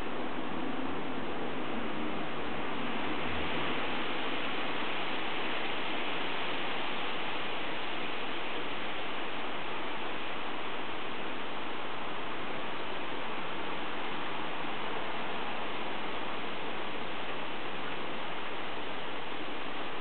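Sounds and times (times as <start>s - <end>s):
recording noise hiss: 0.0s - 20.0s.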